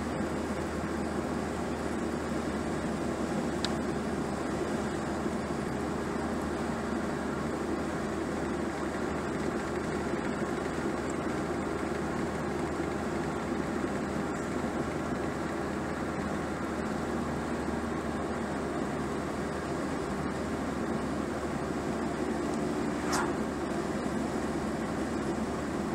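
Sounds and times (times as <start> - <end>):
car cabin road and engine noise: 0.0 - 25.9.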